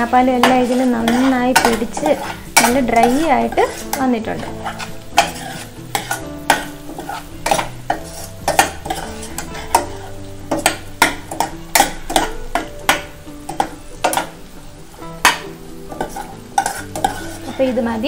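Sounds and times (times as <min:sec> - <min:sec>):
light frying sizzle: 0:00.0 - 0:18.0
spoon scraping steel saucepan: 0:00.1 - 0:14.4, 0:15.2 - 0:17.7.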